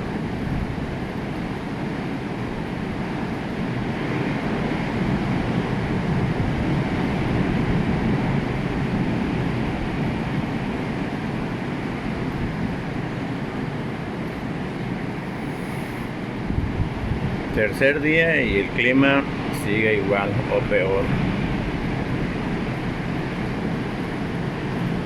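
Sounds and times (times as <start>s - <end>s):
sea surf breaking: 0.0s - 25.0s
wind buffeting microphone: 0.0s - 25.0s.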